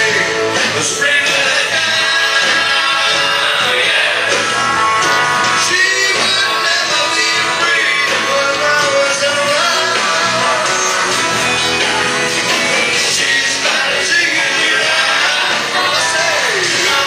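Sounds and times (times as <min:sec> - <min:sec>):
electric guitars: 0:00.0 - 0:17.0
live rock band playing: 0:00.0 - 0:17.0
person singing: 0:00.0 - 0:17.0.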